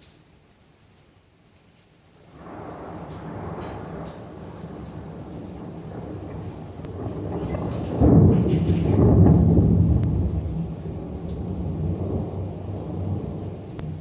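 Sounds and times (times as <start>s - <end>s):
thunder crack and rumble: 2.3s - 14.0s.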